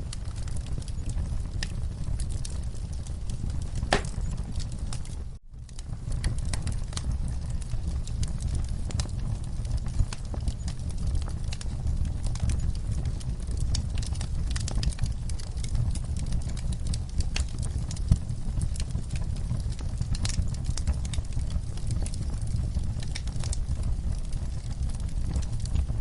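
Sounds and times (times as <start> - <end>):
fireplace fire crackling and popping: 0.0 - 26.0.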